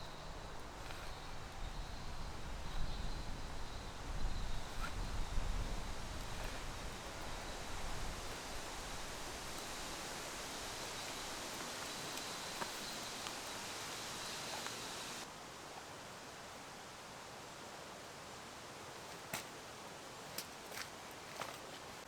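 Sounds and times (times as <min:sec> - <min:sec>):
steady rain hissing: 0:00.0 - 0:19.0.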